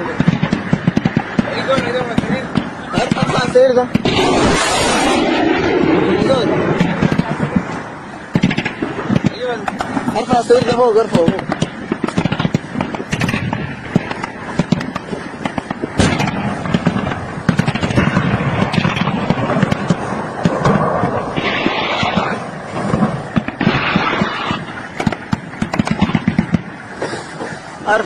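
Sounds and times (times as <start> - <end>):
gunshots: 0.0 - 27.2.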